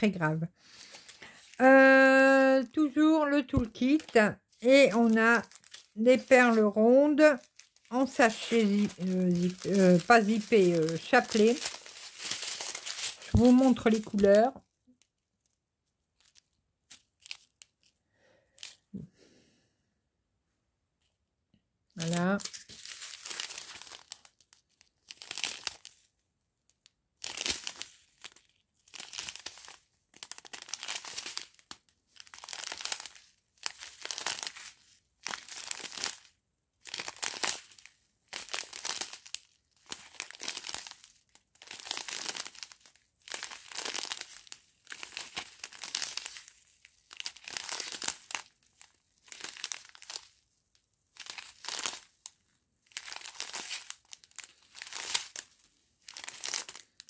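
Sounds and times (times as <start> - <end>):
plastic sachets crinkling: 0.6 - 15.6, 16.2 - 18.8, 22.0 - 26.1, 26.7 - 57.0.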